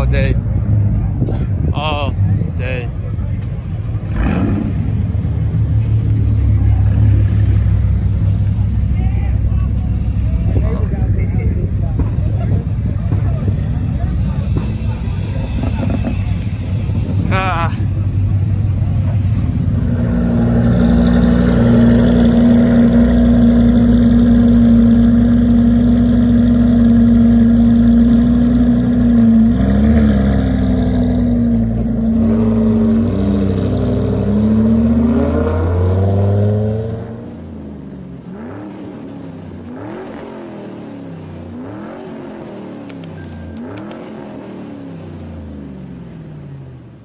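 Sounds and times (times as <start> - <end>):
car engine revving: 3.5 - 43.2.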